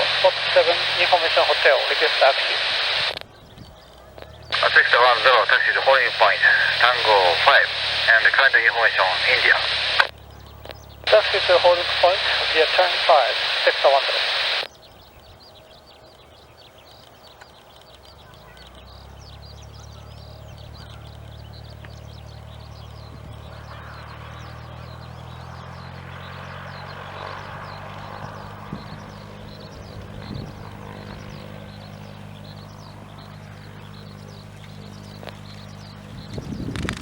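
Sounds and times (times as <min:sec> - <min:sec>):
airplane engine and propeller drone: 0:00.0 - 0:37.0.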